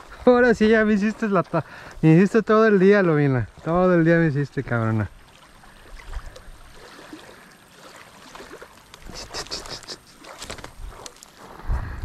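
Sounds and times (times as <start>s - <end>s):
low steady water wash: 0.0s - 11.6s.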